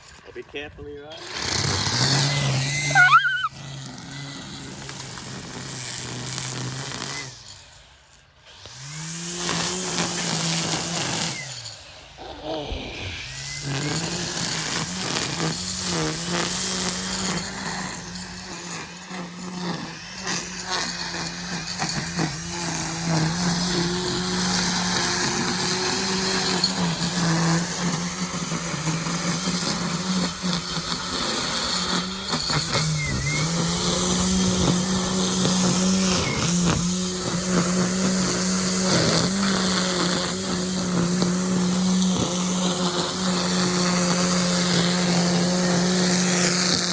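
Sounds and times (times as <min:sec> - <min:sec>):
electric line trimmer motor spinning: 0:01.1 - 0:46.9.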